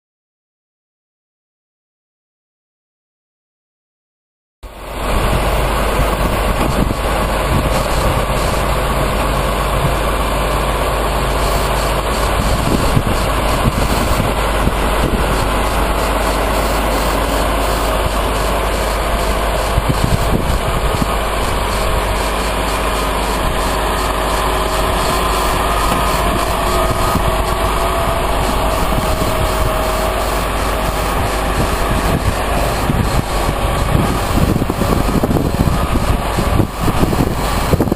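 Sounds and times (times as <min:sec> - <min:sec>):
diesel engine idling: 0:04.7 - 0:37.9.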